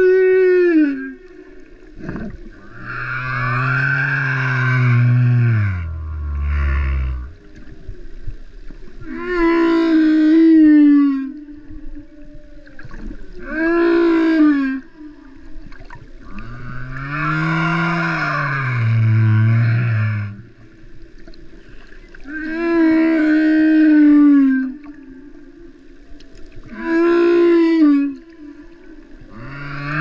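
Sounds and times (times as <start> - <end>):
humpback whale song underwater: 0.0 - 30.0.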